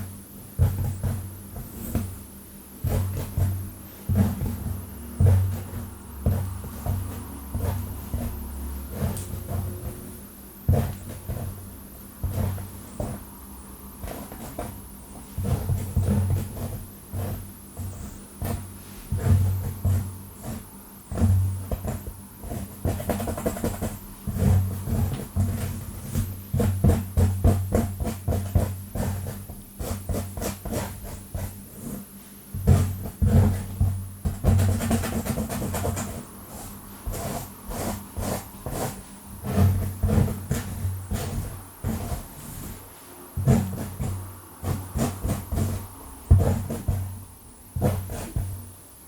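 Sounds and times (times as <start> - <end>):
fingernails scratching through hair: 2.8 - 13.4, 14.0 - 47.1, 47.8 - 48.5.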